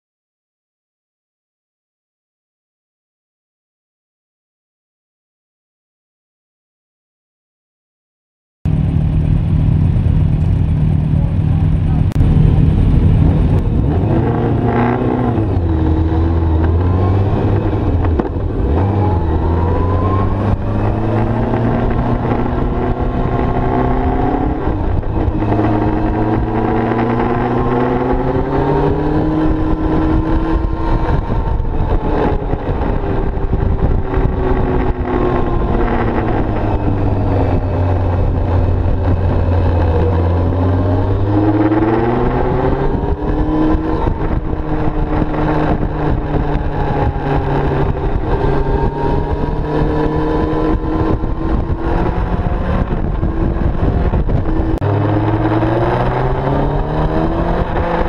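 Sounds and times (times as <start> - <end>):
motorcycle engine revving: 8.7 - 58.0.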